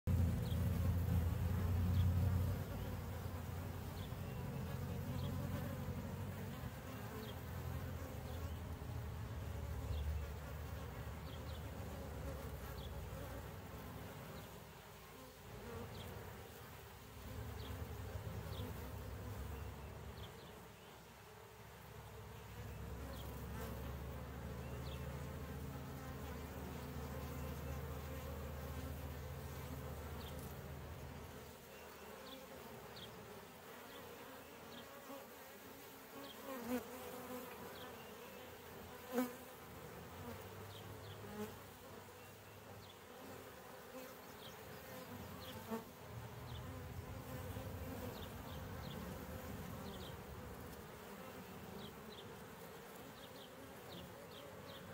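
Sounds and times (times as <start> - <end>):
honeybees buzzing: 0.1 - 54.9.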